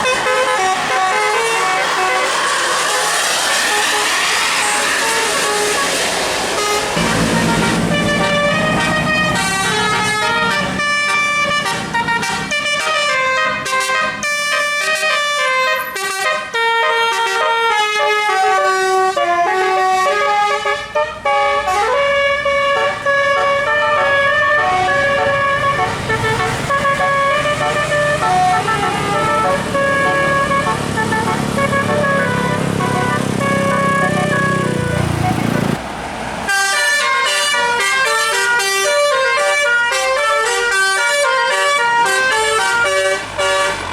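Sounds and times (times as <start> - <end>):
bus engine running: 0.0 - 16.7, 20.1 - 39.6, 40.2 - 43.9
musical air horn melody: 0.0 - 35.8, 36.5 - 43.9.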